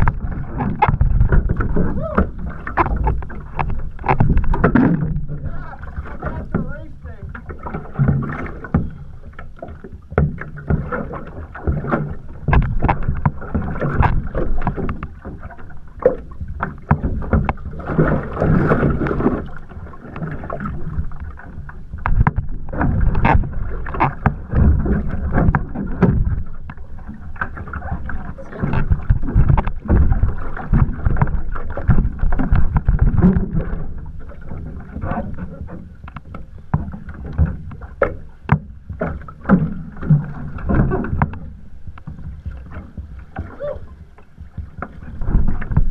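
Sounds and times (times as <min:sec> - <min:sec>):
water slapping against canoe hull: 0:00.0 - 0:45.9.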